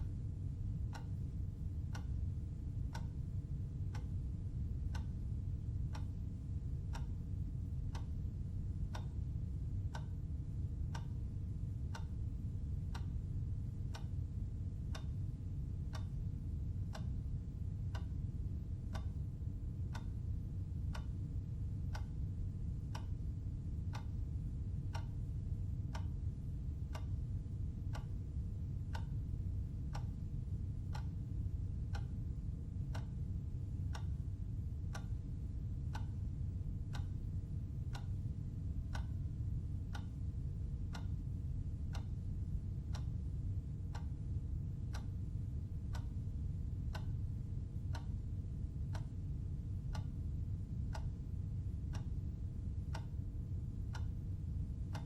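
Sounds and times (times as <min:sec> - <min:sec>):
steady low hum: 0:00.0 - 0:55.0
clock ticking: 0:00.9 - 0:08.3, 0:08.9 - 0:17.3, 0:17.9 - 0:23.2, 0:23.8 - 0:27.2, 0:27.8 - 0:28.3, 0:28.9 - 0:33.2, 0:33.9 - 0:34.2, 0:34.9 - 0:45.2, 0:45.9 - 0:49.2, 0:49.8 - 0:54.2.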